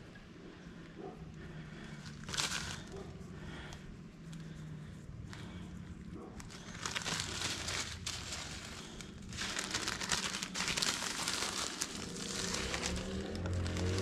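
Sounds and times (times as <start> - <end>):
seed rustling on soil: 1.8 - 14.0.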